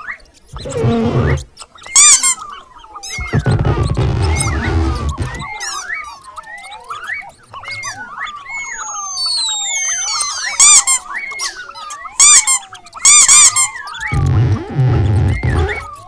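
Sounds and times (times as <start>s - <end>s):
cartoon mouse squeaks: 0.0s - 16.0s.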